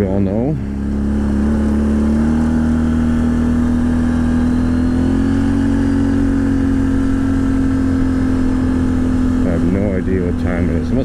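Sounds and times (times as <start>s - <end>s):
atv engine cruising: 0.0s - 11.0s.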